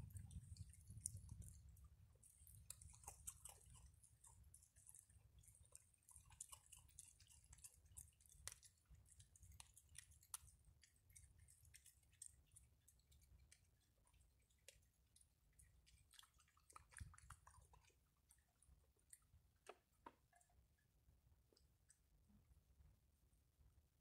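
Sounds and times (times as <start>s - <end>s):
raccoons crunching dry food: 0.0s - 20.7s.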